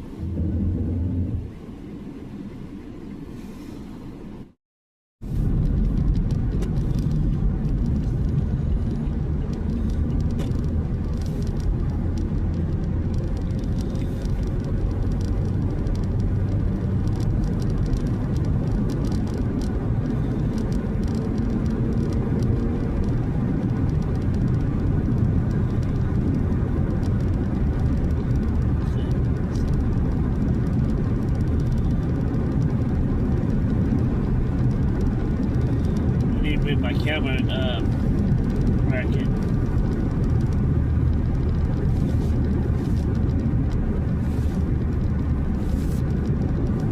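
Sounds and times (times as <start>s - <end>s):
car engine and road noise: 0.0s - 4.6s, 5.2s - 46.9s.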